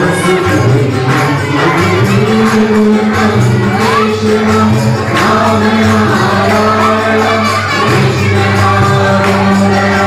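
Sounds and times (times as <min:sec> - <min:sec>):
group singing devotional song: 0:00.0 - 0:10.0
instrumental accompaniment: 0:00.0 - 0:10.0.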